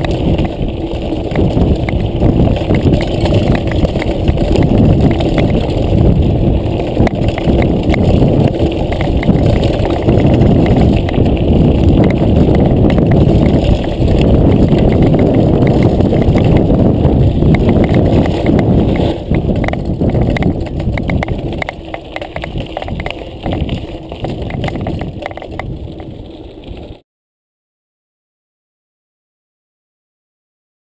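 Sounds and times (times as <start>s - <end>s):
bike rattling over stones: 0.0s - 27.0s
tyres crunching on gravel: 0.0s - 27.0s
wind rumbling on microphone: 0.0s - 27.0s.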